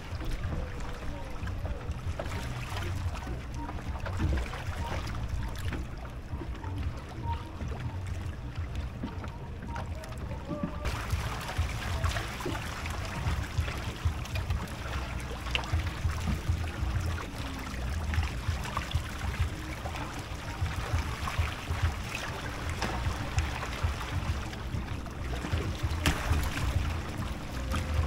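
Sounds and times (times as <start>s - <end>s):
low uneven rumble: 0.0s - 28.0s
small splashes: 0.0s - 28.0s
water lapping against hull: 0.0s - 28.0s.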